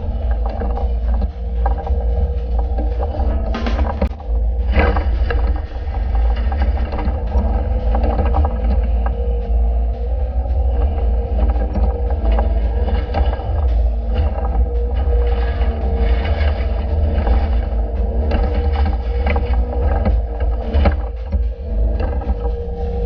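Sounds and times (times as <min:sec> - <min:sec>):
constant whine: 0:00.0 - 0:23.0
excavator diesel engine running: 0:00.0 - 0:23.0.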